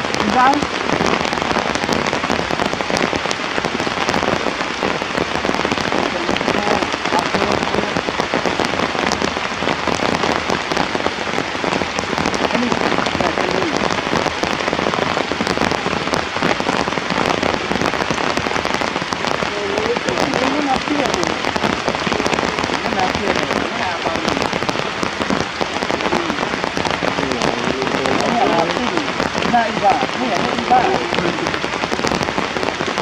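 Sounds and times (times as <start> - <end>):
heavy rain pattering: 0.0 - 33.0.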